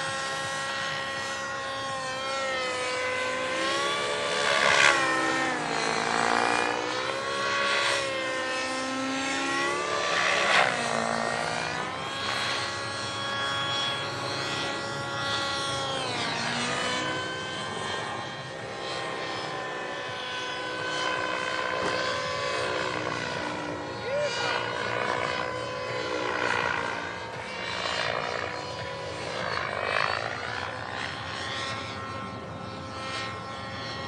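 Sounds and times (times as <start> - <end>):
model helicopter rotor whine: 0.0 - 34.0.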